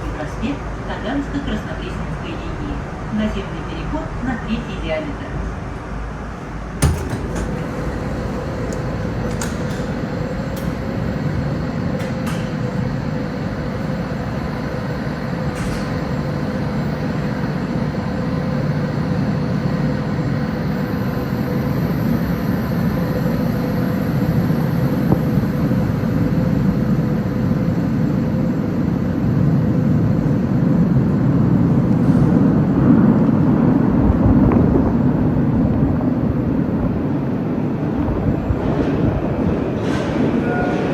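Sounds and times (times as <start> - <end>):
train rumble and hum: 0.0 - 40.9.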